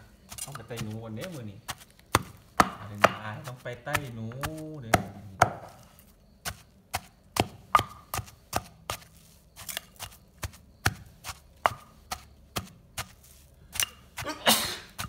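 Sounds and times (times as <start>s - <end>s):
pestle pounding in a mortar: 0.2s - 15.0s.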